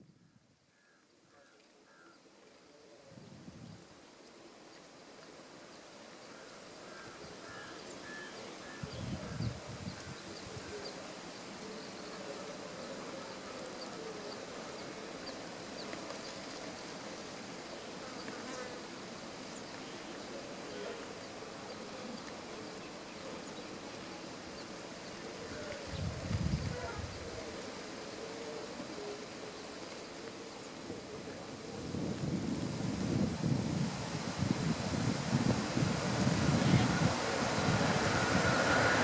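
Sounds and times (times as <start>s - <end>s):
flying insects buzzing: 5.8s - 39.0s.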